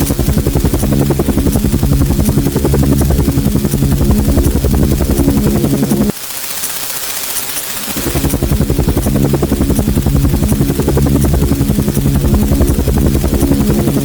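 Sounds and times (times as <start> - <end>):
helicopter engine drone: 0.0 - 14.0
helicopter rotor chop: 0.0 - 14.0.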